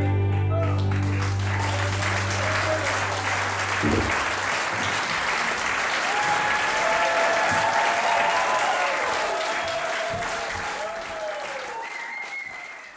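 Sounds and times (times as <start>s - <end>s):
audience applauding: 0.3s - 12.9s.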